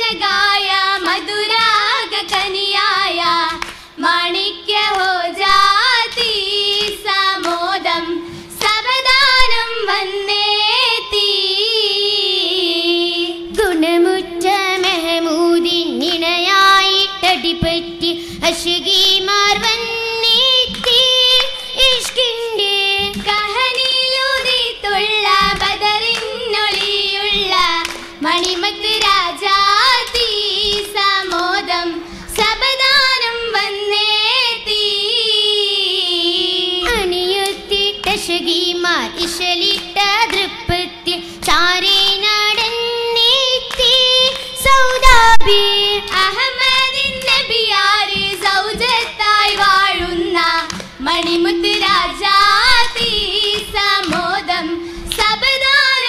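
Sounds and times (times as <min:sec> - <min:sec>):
group hand-clapping: 0:00.0 - 0:10.0, 0:13.5 - 0:14.0, 0:14.6 - 0:17.1, 0:18.6 - 0:34.8, 0:36.7 - 0:56.0
girls singing: 0:00.0 - 0:56.0.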